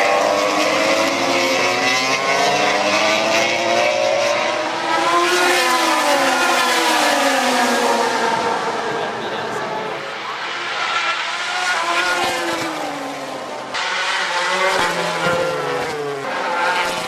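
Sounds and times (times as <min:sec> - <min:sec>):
race bikes passing at high revs: 0:00.0 - 0:17.0.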